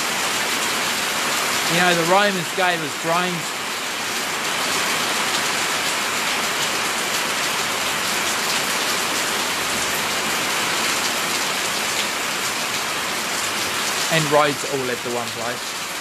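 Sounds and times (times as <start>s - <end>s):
heavy rain on brick paving: 0.0s - 16.0s.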